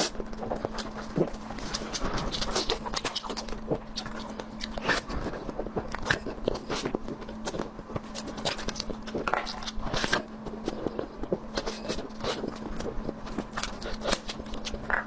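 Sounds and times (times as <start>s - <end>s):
faint steady hum: 0.0s - 15.0s
person chewing food: 0.0s - 15.0s.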